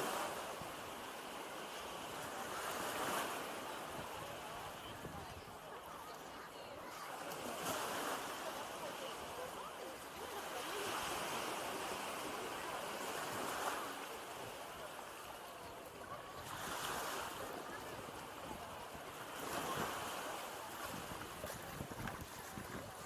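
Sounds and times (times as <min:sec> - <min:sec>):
small waves breaking on beach: 0:00.0 - 0:23.0.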